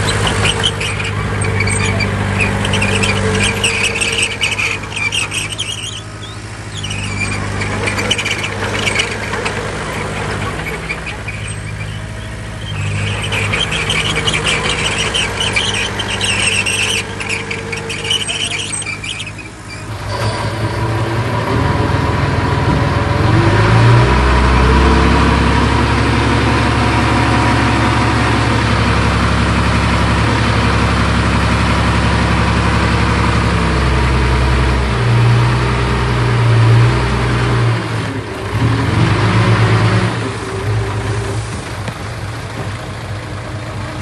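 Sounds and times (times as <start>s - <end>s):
heavy diesel engine revving: 0.0s - 44.0s.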